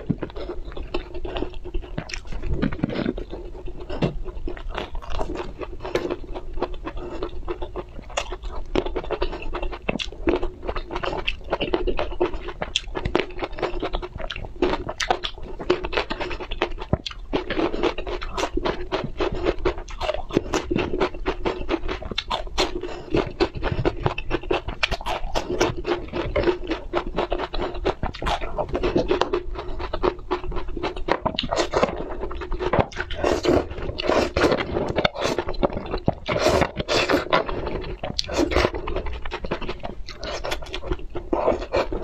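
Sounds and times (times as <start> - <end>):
chewing crunchy food: 0.0 - 42.0.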